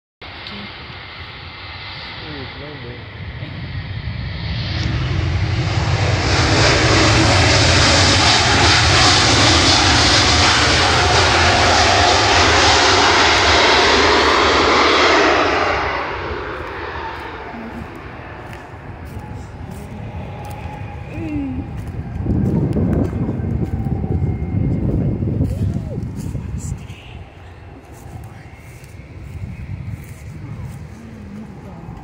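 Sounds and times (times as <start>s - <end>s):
jet engines at takeoff thrust: 0.2s - 32.0s.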